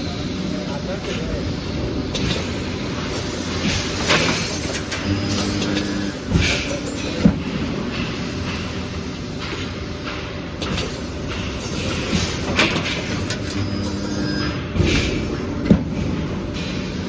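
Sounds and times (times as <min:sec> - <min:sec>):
industrial machine rumble: 0:00.0 - 0:17.0.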